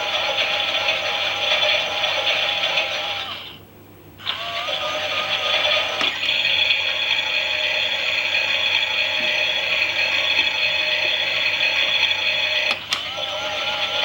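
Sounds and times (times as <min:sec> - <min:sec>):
toy washing machine motor whirring: 0:00.0 - 0:03.6, 0:04.2 - 0:14.0.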